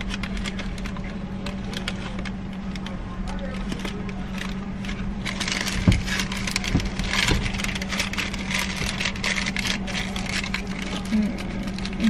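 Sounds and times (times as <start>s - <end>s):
car engine idling: 0.0s - 12.0s
rustling and small clicks: 0.0s - 12.0s.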